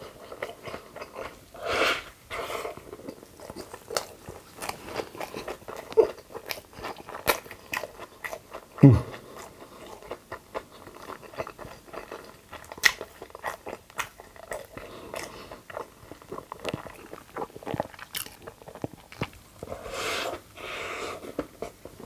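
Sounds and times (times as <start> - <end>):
chewing food: 0.0 - 22.0.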